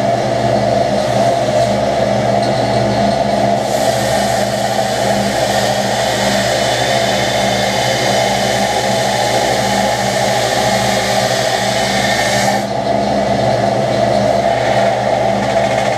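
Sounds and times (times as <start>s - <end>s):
machine motor hum: 0.0s - 15.9s.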